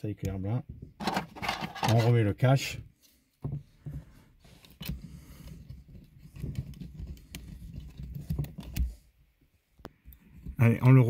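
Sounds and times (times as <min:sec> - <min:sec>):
soft handling noise: 0:00.8 - 0:11.0.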